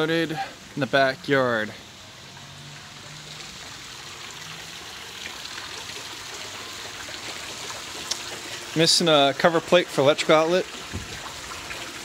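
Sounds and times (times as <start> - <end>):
fountain water splashing into pool: 0.0 - 12.0.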